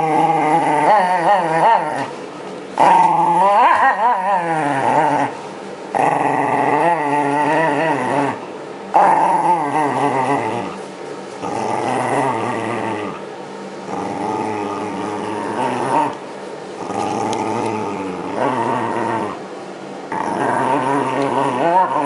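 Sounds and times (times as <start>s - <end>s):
dog growling: 0.0s - 2.2s, 2.8s - 10.8s, 11.4s - 16.2s, 16.8s - 19.5s, 20.1s - 22.0s.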